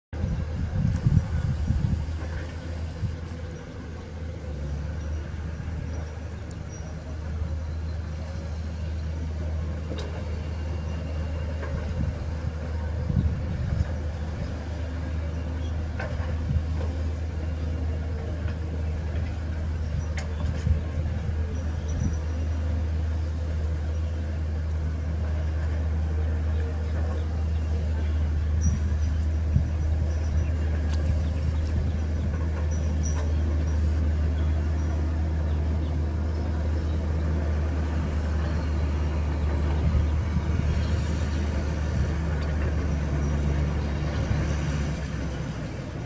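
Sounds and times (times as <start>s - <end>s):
excavator diesel engines droning: 0.2s - 46.0s.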